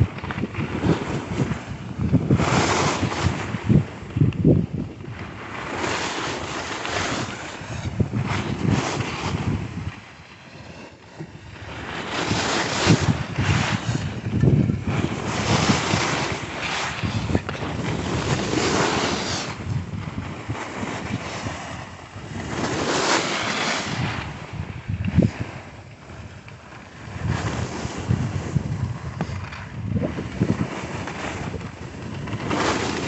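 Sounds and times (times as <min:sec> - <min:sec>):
skis scraping over snow: 0:00.0 - 0:33.0
wind buffeting microphone: 0:00.0 - 0:33.0.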